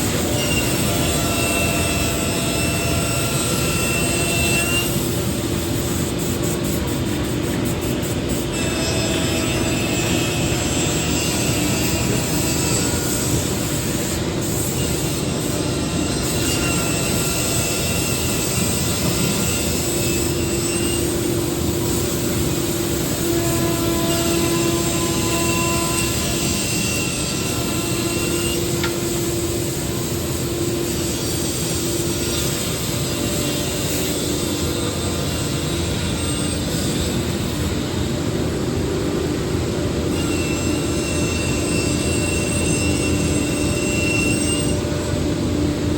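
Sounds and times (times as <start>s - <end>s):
cnc router cutting wood: 0.0s - 45.9s.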